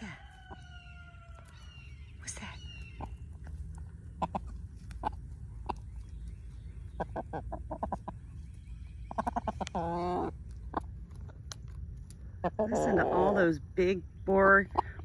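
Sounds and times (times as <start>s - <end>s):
chickens clucking: 0.0s - 13.6s, 14.4s - 15.0s.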